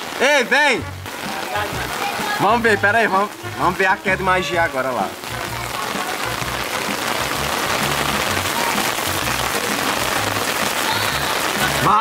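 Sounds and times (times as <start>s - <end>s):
heavy rain on concrete: 0.0s - 12.0s
bass line background music: 0.3s - 12.0s.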